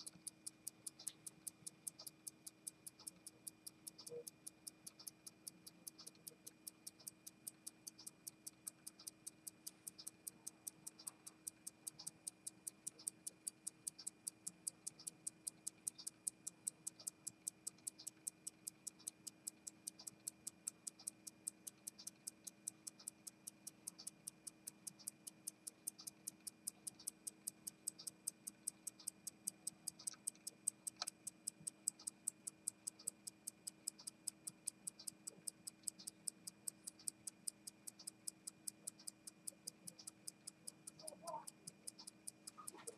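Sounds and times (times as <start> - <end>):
watch ticking: 0.0 - 42.9.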